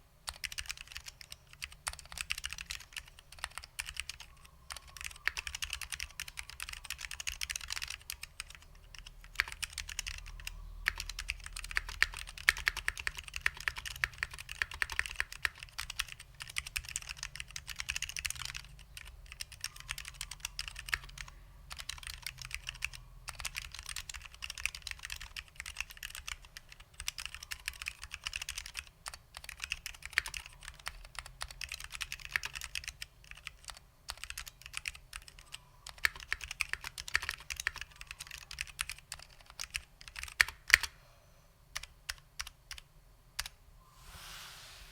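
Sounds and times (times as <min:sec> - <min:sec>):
mechanical keyboard typing: 0:00.3 - 0:40.9, 0:41.8 - 0:43.6.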